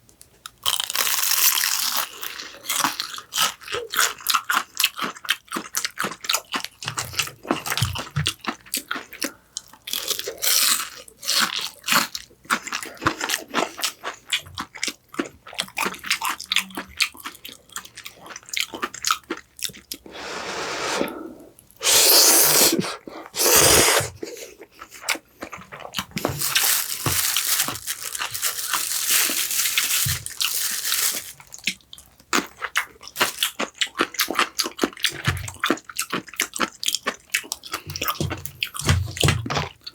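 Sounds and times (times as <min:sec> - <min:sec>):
crunching and chewing fried food: 0:00.2 - 0:20.2, 0:22.8 - 0:39.9.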